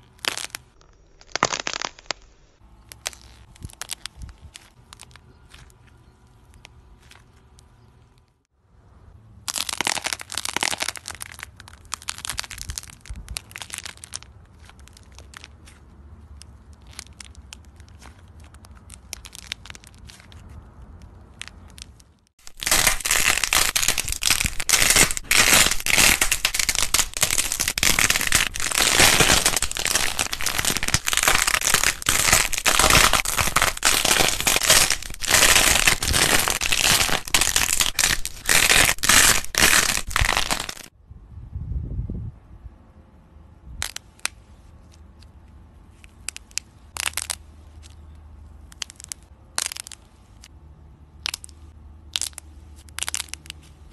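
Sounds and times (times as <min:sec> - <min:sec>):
clay crackling and crunching: 0:00.0 - 0:08.5, 0:09.4 - 0:41.0, 0:43.8 - 0:50.6, 0:51.2 - 0:53.9.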